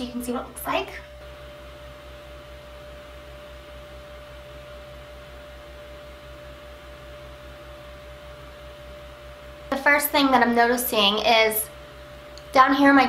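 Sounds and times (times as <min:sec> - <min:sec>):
electrical hum and hiss: 0:00.0 - 0:13.0
thin steady whine: 0:00.0 - 0:13.0.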